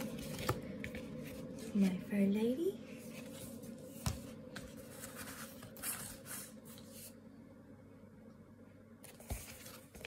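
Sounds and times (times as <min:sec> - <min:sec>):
cardboard record sleeves rustling: 0:00.0 - 0:07.2, 0:09.0 - 0:10.0
faint steady hum: 0:00.0 - 0:10.0.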